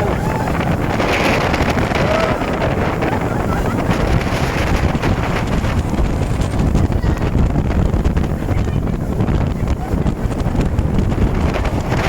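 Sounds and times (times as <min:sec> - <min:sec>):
boat engine rushing: 0:00.0 - 0:12.0
water beneath hull: 0:00.0 - 0:12.0
wind buffeting microphone: 0:00.0 - 0:12.0.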